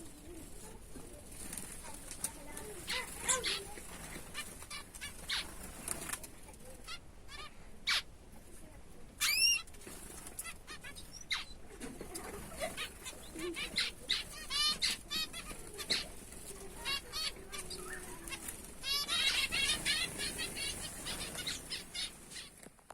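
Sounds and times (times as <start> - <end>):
small birds chirping: 0.0 - 22.8.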